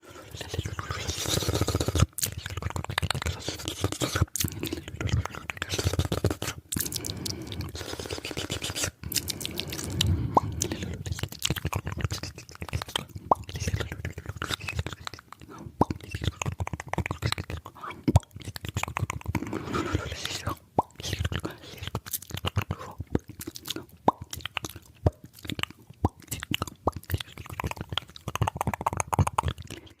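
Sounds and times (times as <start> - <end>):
wet mouth clicks and smacking: 0.1 - 30.0.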